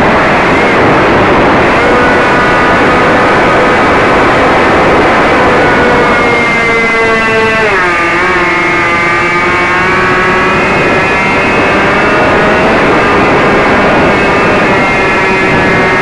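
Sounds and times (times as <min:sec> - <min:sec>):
model plane motor whine: 0:00.0 - 0:16.0
wind noise: 0:00.0 - 0:16.0.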